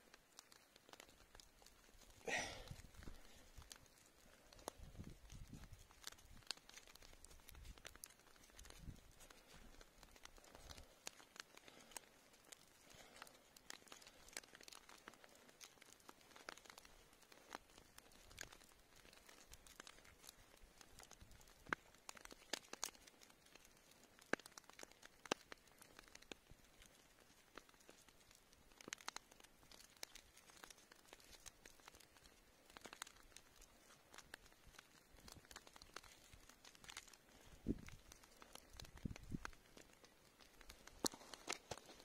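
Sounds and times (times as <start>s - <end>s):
log fire crackling: 0.0s - 42.0s.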